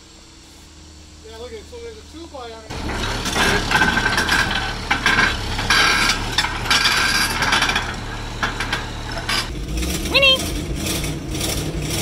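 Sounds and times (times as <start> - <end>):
excavator diesel engine running: 1.7 - 12.0.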